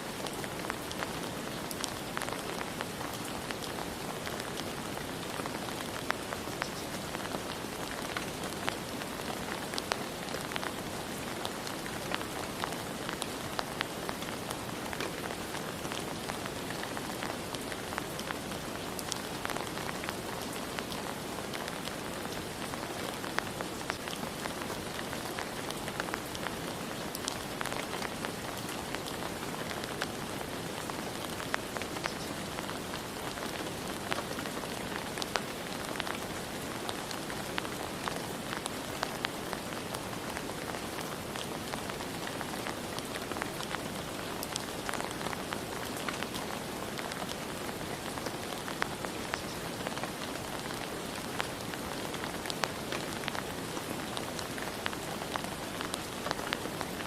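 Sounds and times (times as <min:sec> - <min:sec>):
steady rain with ticking drops: 0:00.0 - 0:57.0.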